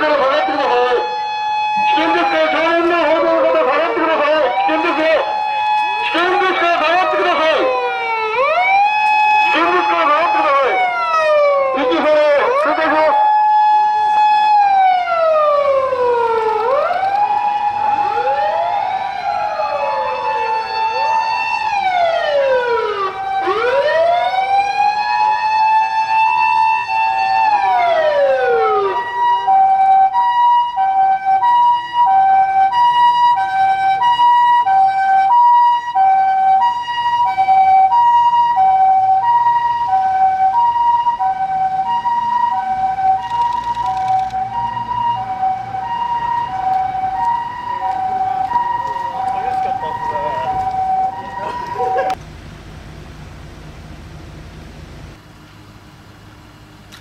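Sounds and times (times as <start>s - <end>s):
ambulance siren: 0.0s - 52.2s.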